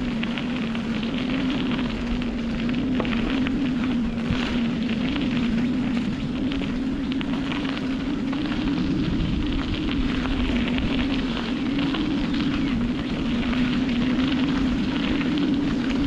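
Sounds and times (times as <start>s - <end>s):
bicycle tyres crunching over dirt: 0.0s - 16.0s
wind buffeting microphone: 0.0s - 16.0s.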